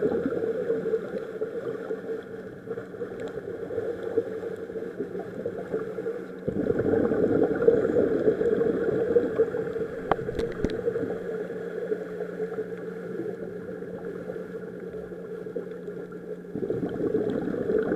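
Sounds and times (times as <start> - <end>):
bubbles gurgling underwater: 0.0 - 17.9
steady low hum: 0.0 - 17.9.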